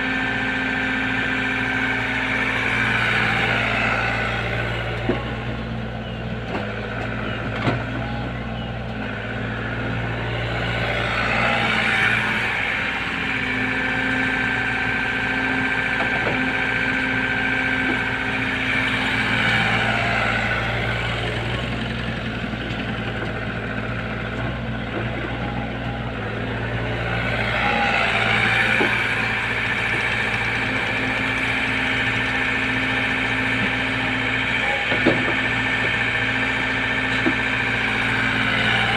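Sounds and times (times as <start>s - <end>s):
excavator diesel engine running: 0.0s - 38.9s
hydraulic whine: 0.0s - 38.9s.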